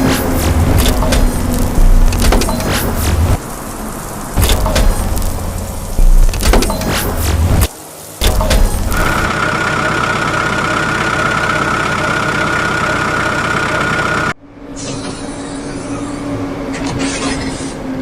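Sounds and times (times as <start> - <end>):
diesel engines running: 0.0 - 18.0.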